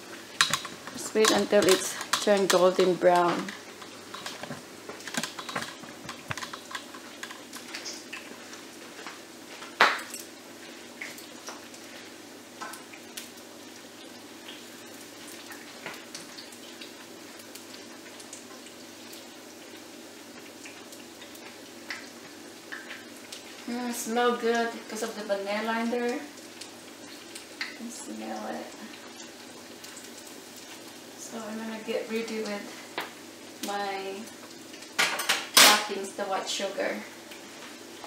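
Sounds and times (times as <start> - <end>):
fritters crackling in oil: 0.0 - 38.0.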